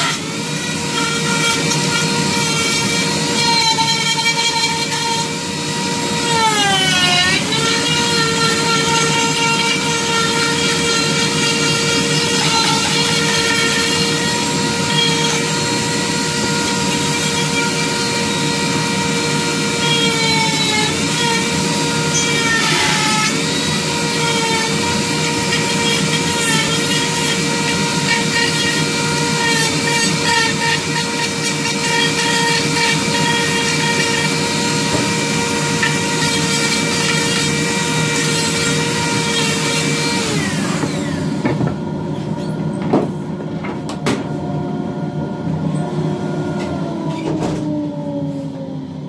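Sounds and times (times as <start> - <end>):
rotary tool grinding wood: 0.0 - 41.3.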